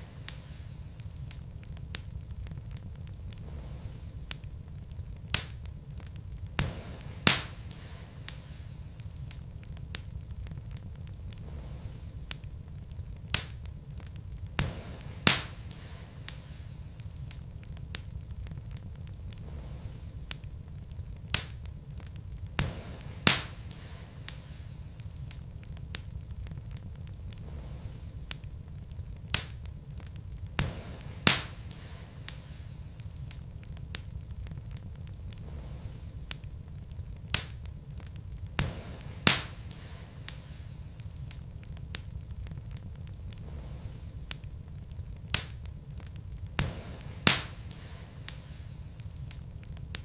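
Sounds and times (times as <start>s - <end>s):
logs burning with crackles: 0.0s - 50.0s
sharp fire pops: 0.0s - 50.0s.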